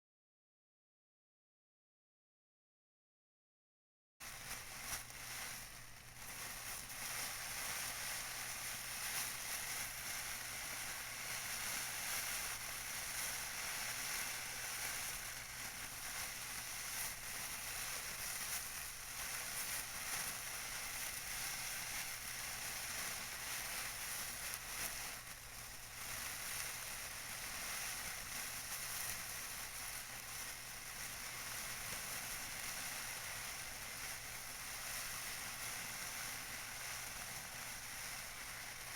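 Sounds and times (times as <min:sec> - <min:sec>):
tissue paper crinkling: 0:04.2 - 0:38.9.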